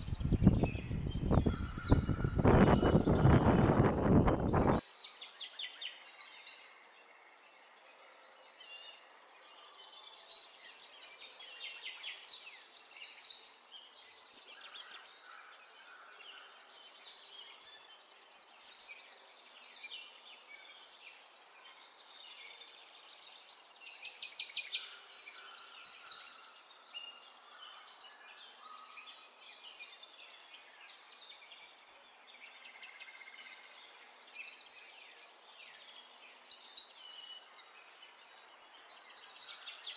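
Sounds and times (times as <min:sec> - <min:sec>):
faint outdoor background noise: 0:00.0 - 0:39.9
small birds chirping: 0:00.0 - 0:39.9.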